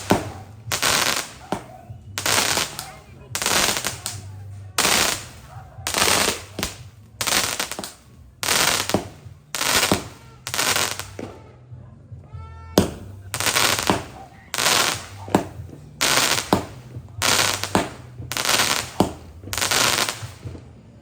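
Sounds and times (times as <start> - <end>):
firework fountain hissing and crackling: 0.0 - 11.4, 12.8 - 21.0.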